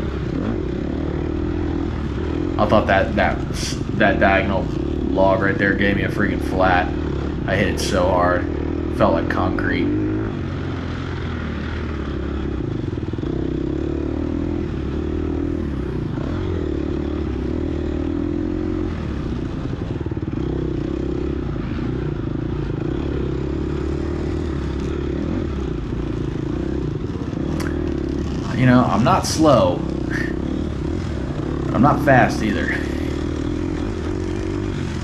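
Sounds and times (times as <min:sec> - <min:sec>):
dirt bike engine running under load: 0:00.0 - 0:35.0.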